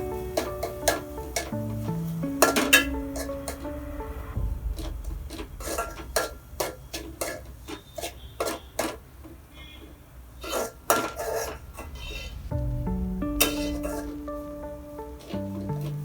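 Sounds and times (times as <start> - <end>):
metal utensil stirring in pan: 0.0 - 3.8, 4.6 - 12.4, 13.3 - 16.0.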